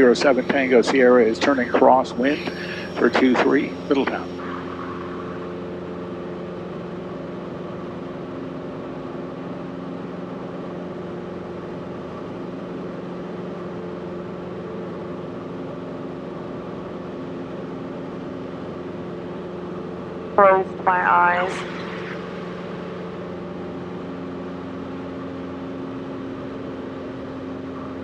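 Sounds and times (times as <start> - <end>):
light aircraft engine drone: 0.0 - 28.0.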